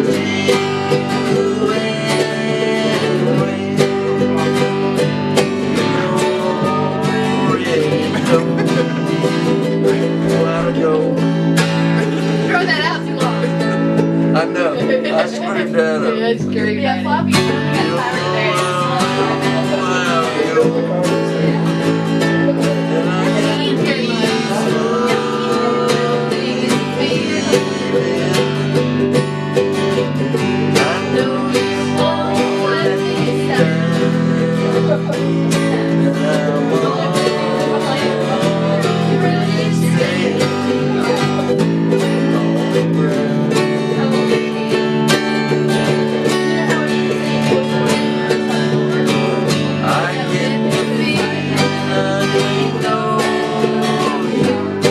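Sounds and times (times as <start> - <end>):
acoustic string band playing: 0.0 - 54.9
quickly picked guitar: 0.0 - 54.9.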